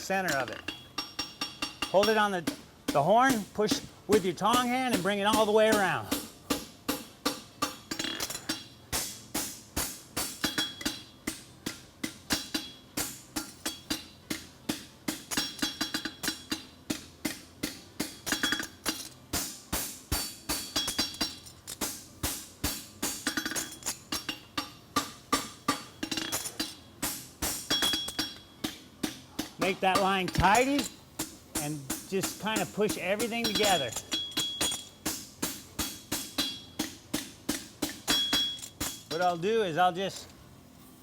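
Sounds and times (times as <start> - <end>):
hammer striking metal on anvil: 0.3 - 39.4.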